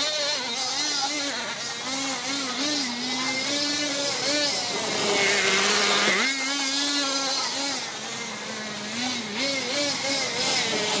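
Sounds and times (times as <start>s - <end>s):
nitro engine revving: 0.0s - 11.0s.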